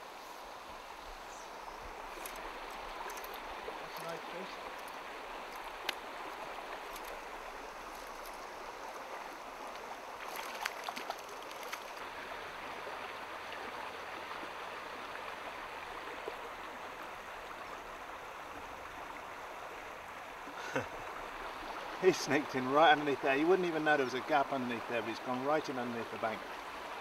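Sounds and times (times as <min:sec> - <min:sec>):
stream running over rocks: 0:00.0 - 0:27.0.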